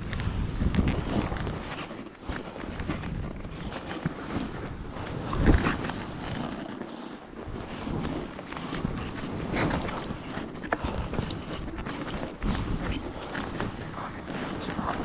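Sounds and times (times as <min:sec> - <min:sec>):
wind buffeting microphone: 0:00.0 - 0:06.6, 0:07.3 - 0:15.0
skis rushing through powder snow: 0:00.4 - 0:15.0.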